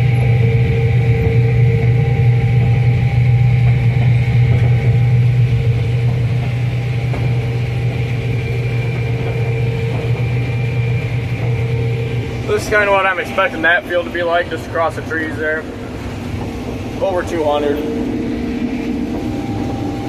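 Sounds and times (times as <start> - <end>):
combine harvester low drone: 0.0 - 20.0
high machine whine: 0.0 - 20.0.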